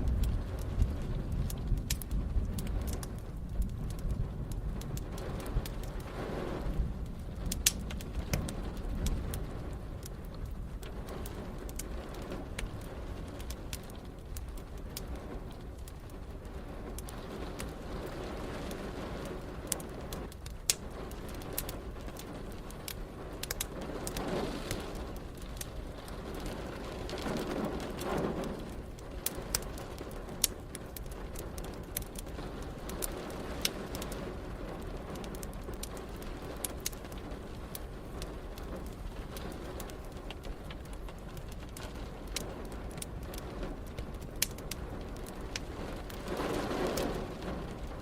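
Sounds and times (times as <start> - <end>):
rain: 0.0 - 48.0
wood fire crackling and popping: 0.0 - 48.0.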